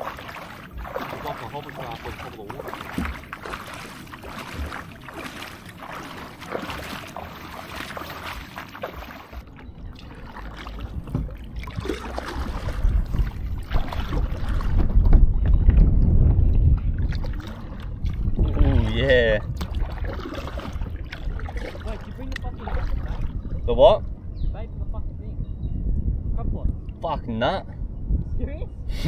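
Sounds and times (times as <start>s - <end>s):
water splashing from wading: 0.0s - 23.7s
wind buffeting microphone: 0.0s - 29.0s.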